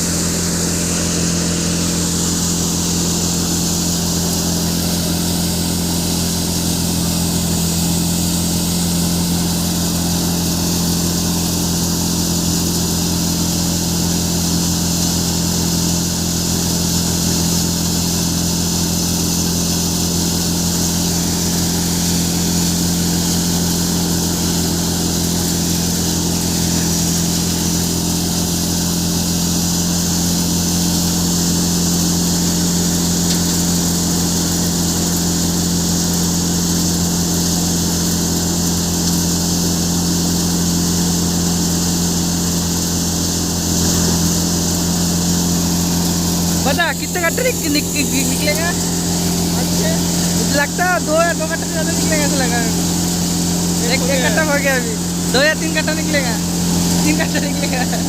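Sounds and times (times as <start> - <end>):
threshing machine whirring: 0.0 - 58.0
tractor engine hum: 0.0 - 58.0.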